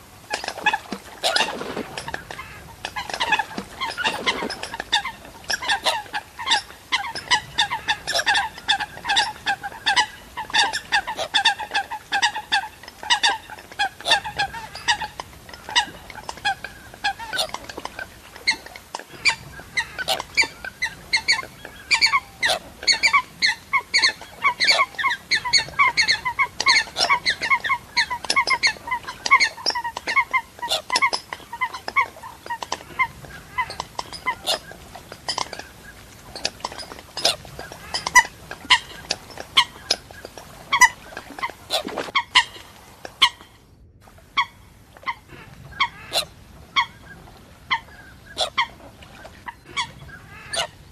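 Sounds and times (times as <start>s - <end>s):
waterhens calling: 0.0s - 50.9s.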